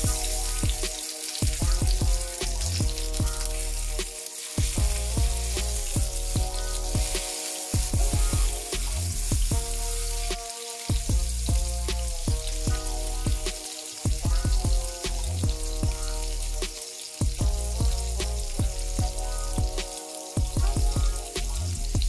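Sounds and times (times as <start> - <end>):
background music: 0.0 - 22.0
fish sizzling in a frying pan: 0.0 - 22.0.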